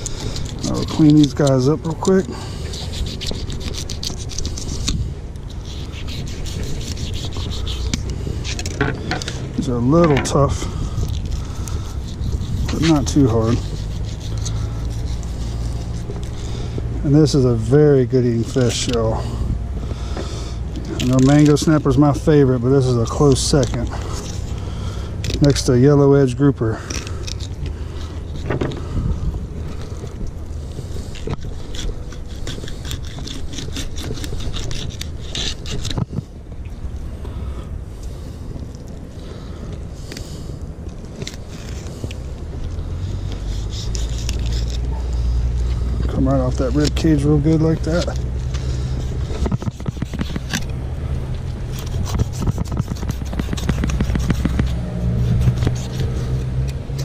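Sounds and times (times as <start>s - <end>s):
wind rumble on microphone: 0.0s - 26.4s, 27.3s - 57.0s
knife scraping fish skin: 0.0s - 28.9s, 29.6s - 36.3s, 39.3s - 57.0s
steady low hum: 0.0s - 57.0s.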